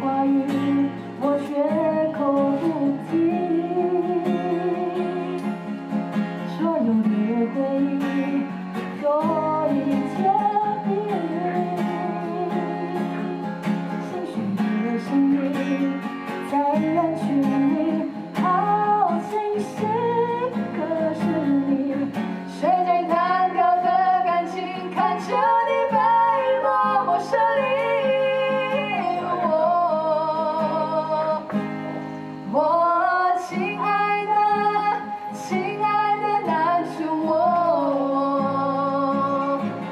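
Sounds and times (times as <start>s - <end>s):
woman singing: 0.0s - 5.7s, 6.4s - 31.6s, 32.4s - 39.9s
acoustic guitar strummed and picked: 0.0s - 39.9s.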